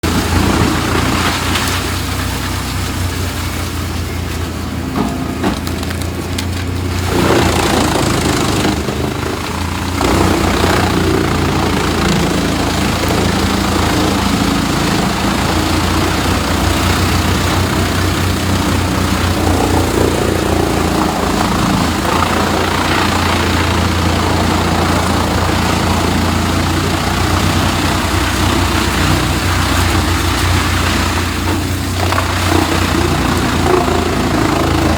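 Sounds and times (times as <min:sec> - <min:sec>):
wood being shredded: 0:00.0 - 0:34.9
wood chipper engine drone: 0:00.0 - 0:34.9.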